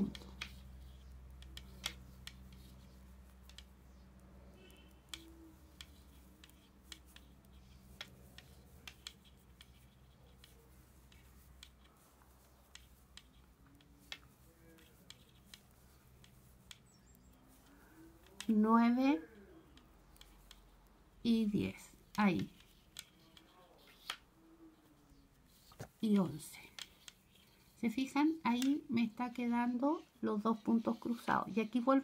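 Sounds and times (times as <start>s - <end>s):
knitting needles clicking: 0.0s - 32.0s.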